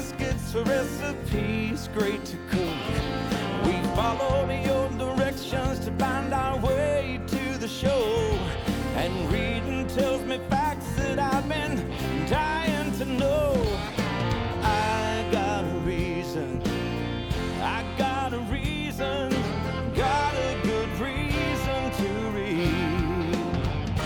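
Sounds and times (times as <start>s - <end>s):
country song with singing: 0.0s - 24.0s
guitar: 0.0s - 24.0s.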